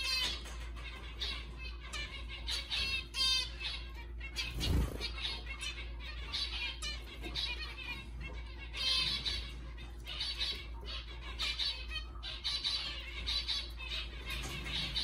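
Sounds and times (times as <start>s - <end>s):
finches calling: 0.0s - 15.0s.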